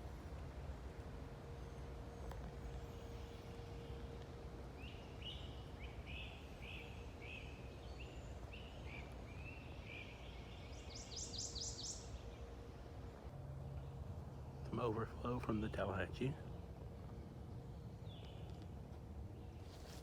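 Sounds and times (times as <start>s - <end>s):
faint hum: 0.0s - 20.0s
songbird chirping: 0.1s - 20.0s.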